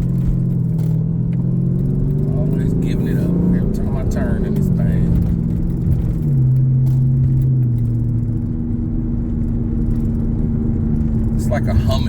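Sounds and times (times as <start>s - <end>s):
engine and road rumble: 0.0s - 12.0s
steady car cabin hum: 0.0s - 12.0s.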